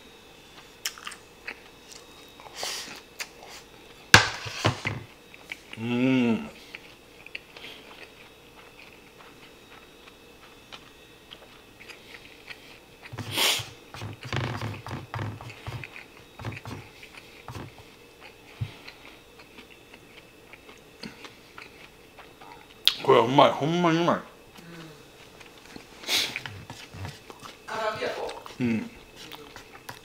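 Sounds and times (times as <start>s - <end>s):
man chewing food: 0.4s - 23.1s, 24.4s - 30.0s.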